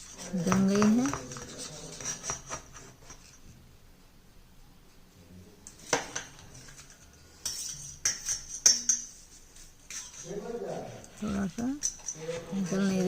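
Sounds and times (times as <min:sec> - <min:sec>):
metal utensil scraping a dish: 0:00.0 - 0:03.4, 0:05.8 - 0:13.0.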